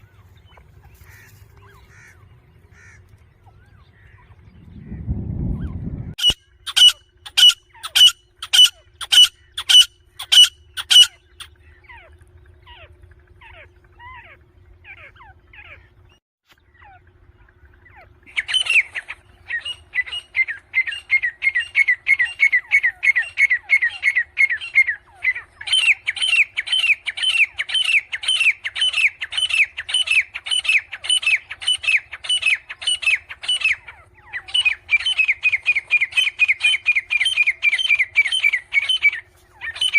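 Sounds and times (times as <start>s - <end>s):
harsh bird calls: 0.0s - 39.9s
repeated rising bird notes: 0.0s - 39.9s.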